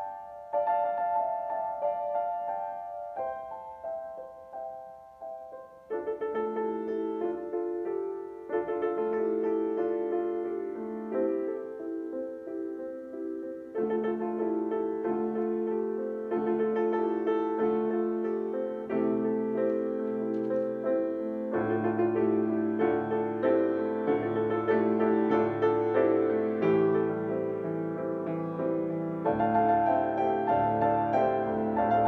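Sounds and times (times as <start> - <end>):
piano playing slow chords: 0.0 - 32.0.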